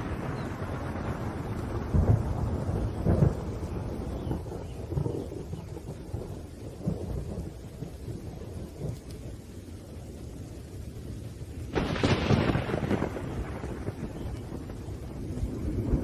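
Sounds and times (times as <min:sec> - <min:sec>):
loud thunderclap: 0:00.0 - 0:09.1, 0:11.6 - 0:16.0
steady rain: 0:00.0 - 0:16.0
thunder rumbling: 0:00.0 - 0:16.0.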